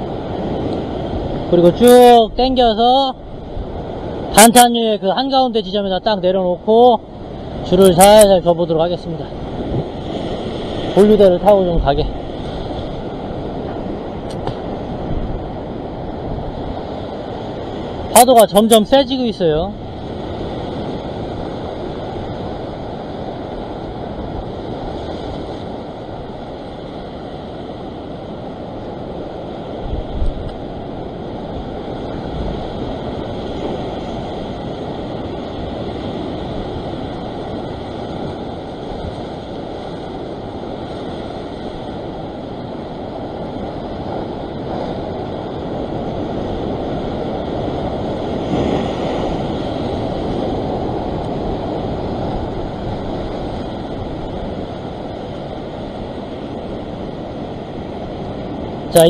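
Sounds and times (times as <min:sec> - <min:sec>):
surf breaking over rocks: 0:00.0 - 0:59.0
wind buffeting microphone: 0:00.0 - 0:59.0.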